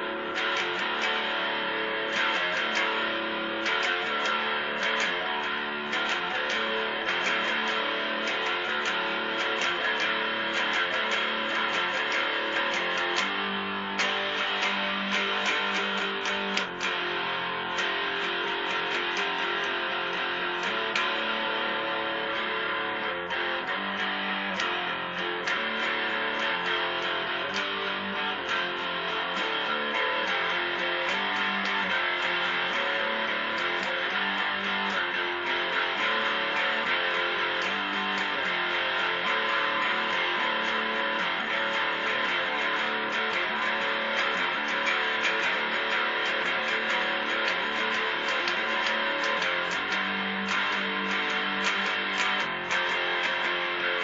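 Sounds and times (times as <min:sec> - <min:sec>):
electric guitar strumming: 0:00.0 - 0:54.0.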